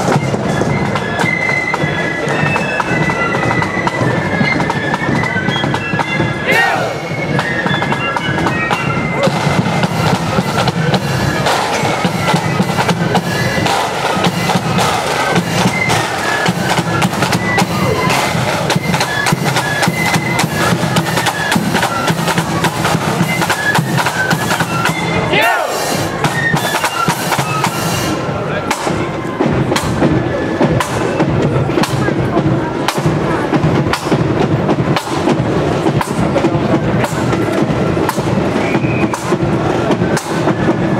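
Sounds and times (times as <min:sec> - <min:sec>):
flutes playing a tune: 0:00.0 - 0:34.2, 0:35.0 - 0:40.9
steady drumming: 0:00.0 - 0:40.9.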